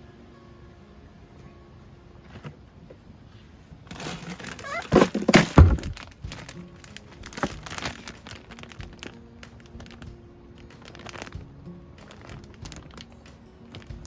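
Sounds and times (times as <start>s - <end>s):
background music with held notes: 0.0s - 3.6s, 5.6s - 14.0s
crinkling and rustling handling noises: 2.2s - 14.0s.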